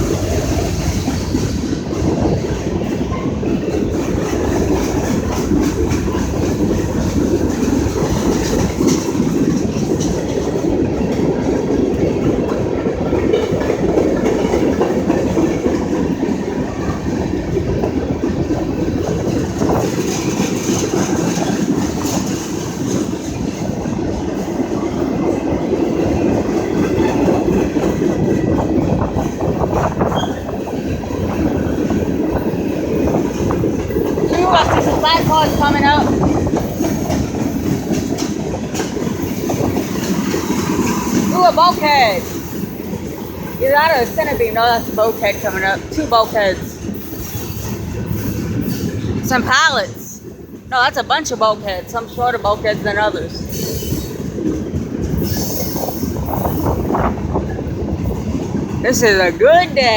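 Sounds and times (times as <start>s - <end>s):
freight train rumbling past: 0.0s - 59.9s
wheels clattering over rail joints: 0.0s - 59.9s.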